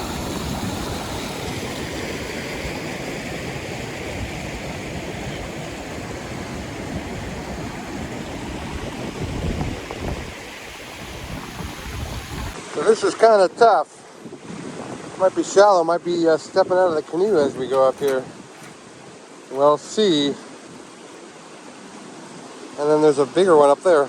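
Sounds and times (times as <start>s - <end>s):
water rushing over rapid: 0.0s - 24.0s.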